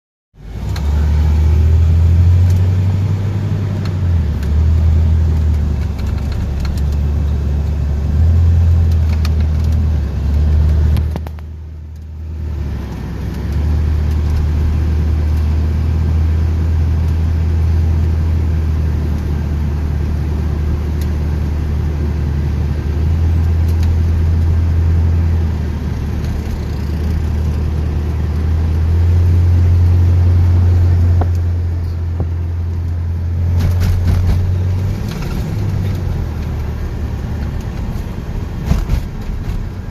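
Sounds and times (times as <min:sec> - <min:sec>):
car engine rumbling while driving: 0:00.4 - 0:39.9.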